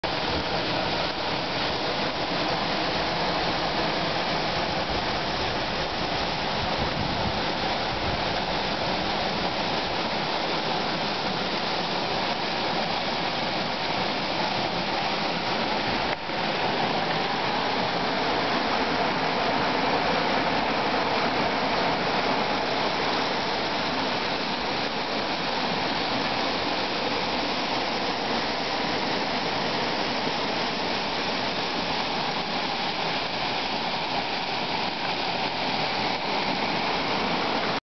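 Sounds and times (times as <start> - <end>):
waterfall roaring: 0.0 - 37.8.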